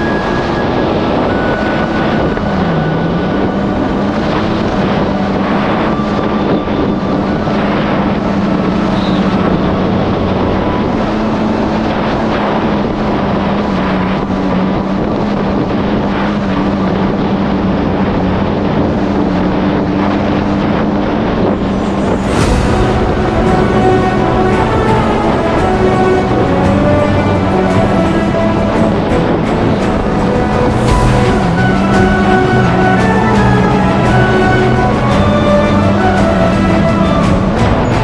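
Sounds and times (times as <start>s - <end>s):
jet ski engine droning: 0.0s - 38.0s
rush of wind and water: 0.0s - 38.0s.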